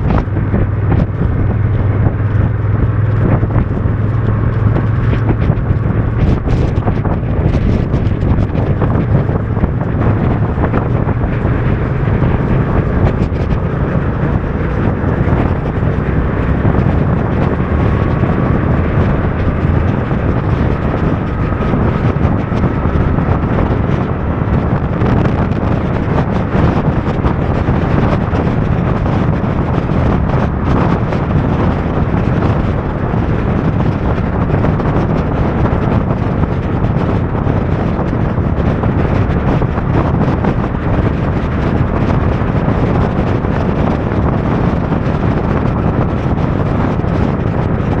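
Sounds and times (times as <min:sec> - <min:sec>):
motorcycle engine: 0:00.0 - 0:48.0
wet road noise: 0:00.0 - 0:48.0
wind buffeting microphone: 0:00.0 - 0:48.0.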